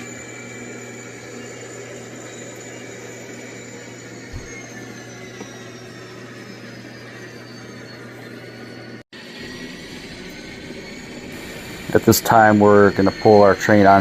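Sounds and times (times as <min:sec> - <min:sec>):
high whine: 0:00.0 - 0:14.0
model locomotive engine hum: 0:00.0 - 0:14.0.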